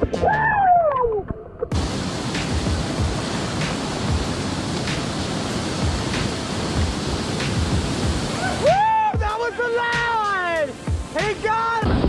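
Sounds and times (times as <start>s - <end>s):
whitewater rapids rushing: 1.7s - 12.0s.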